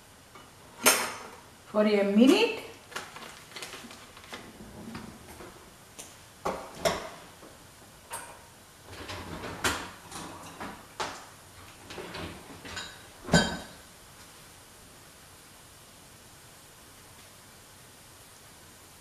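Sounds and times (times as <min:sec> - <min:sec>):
faint frying hiss: 0:00.0 - 0:19.0.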